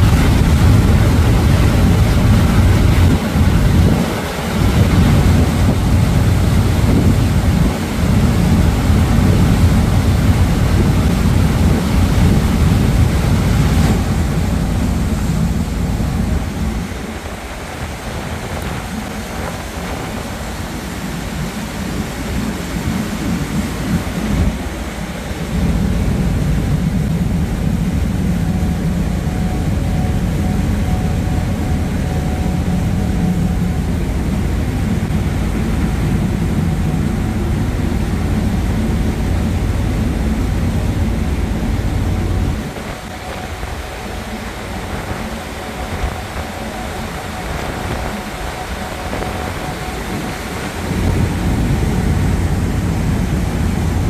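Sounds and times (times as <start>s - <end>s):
ferry engine rumble: 0.0s - 54.0s
water rushing from wake: 0.0s - 54.0s
wind buffeting microphone: 0.0s - 54.0s.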